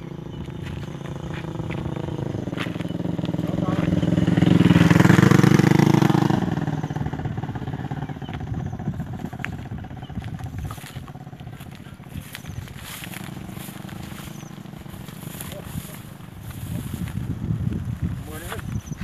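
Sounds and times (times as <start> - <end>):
passing vehicle engine: 0.0 - 19.0.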